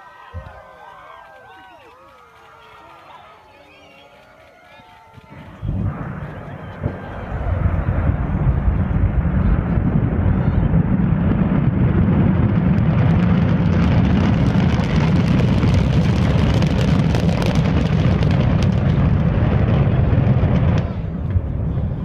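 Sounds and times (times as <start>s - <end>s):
rocket engines rumbling: 0.0s - 22.0s.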